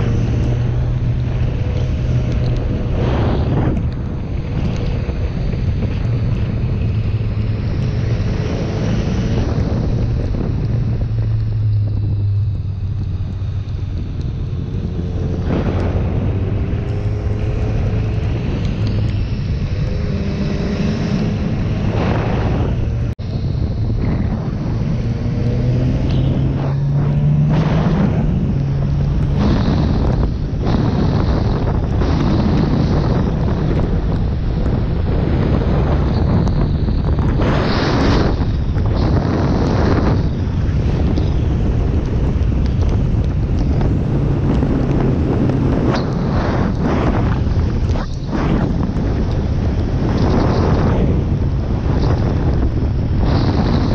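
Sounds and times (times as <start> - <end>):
wind over microphone: 0.0 - 53.9.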